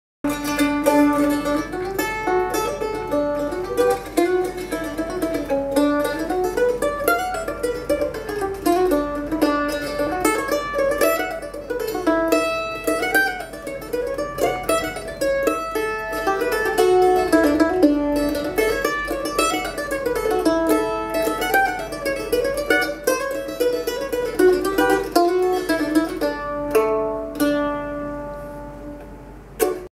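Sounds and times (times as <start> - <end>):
mandolin plucked melody: 0.2 - 29.9.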